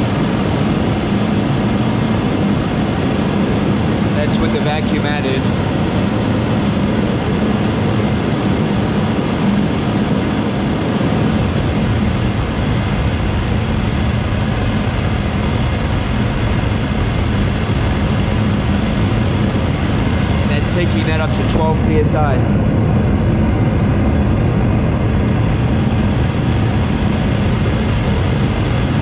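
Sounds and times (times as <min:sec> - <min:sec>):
gas burner flame and blower rushing: 0:00.0 - 0:29.0.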